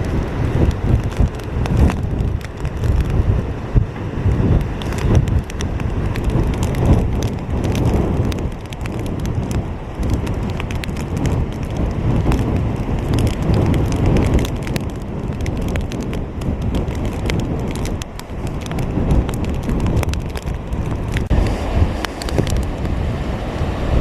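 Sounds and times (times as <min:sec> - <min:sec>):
heavy rain ticking on microphone: 0:00.0 - 0:24.0
low rumble of wind: 0:00.0 - 0:24.0.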